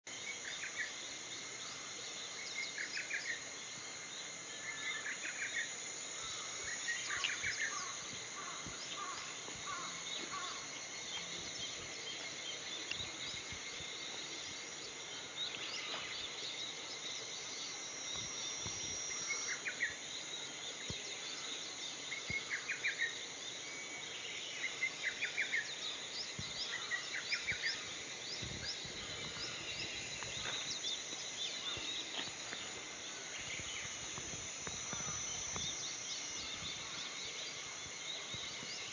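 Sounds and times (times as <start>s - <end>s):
constant high hiss: 0.0s - 38.9s
small birds chirping: 0.2s - 38.9s.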